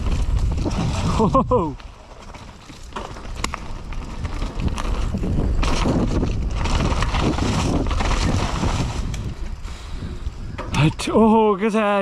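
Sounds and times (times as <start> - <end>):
wind noise on microphone: 0.0 - 1.8, 3.1 - 11.4
bike tyres and frame rattling: 0.0 - 12.0.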